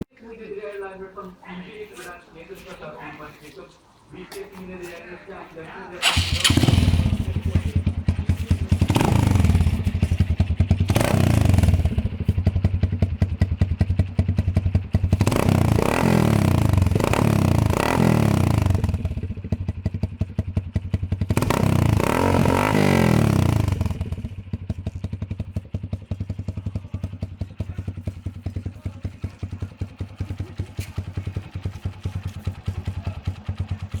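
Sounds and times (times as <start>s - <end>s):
motorcycle engine revving and idling: 5.6s - 34.0s.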